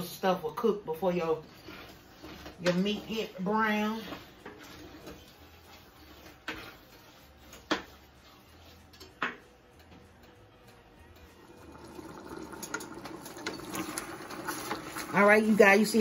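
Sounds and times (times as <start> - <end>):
ground beef being stirred: 0.7 - 16.0.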